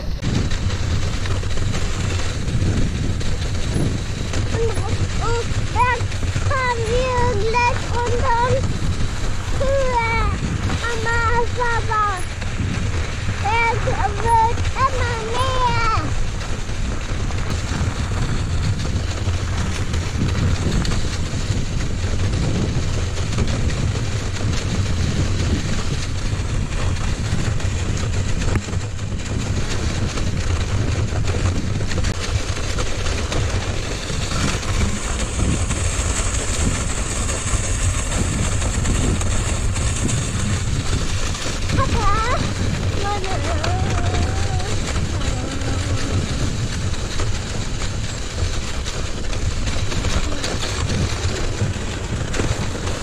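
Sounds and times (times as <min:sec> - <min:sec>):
bike tyres hissing through snow: 0:00.0 - 0:53.0.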